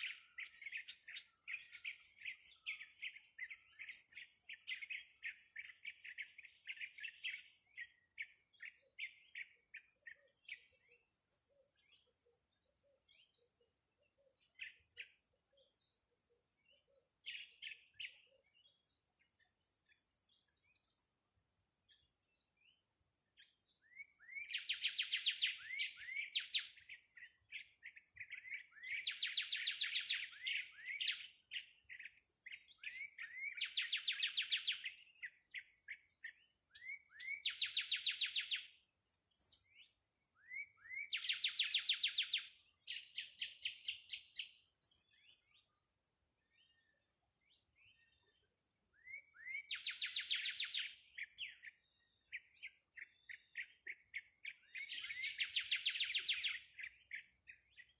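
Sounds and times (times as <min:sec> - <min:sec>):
faint bird chirps: 0:00.0 - 0:57.9
songbird singing trills: 0:00.0 - 0:57.9.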